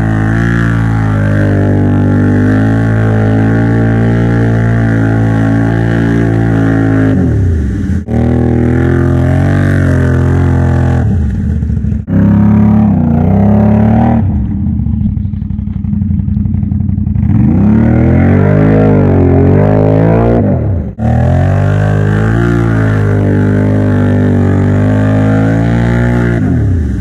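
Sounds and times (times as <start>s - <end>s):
atv engine revving: 0.0s - 27.0s
tires spinning in mud: 0.0s - 27.0s.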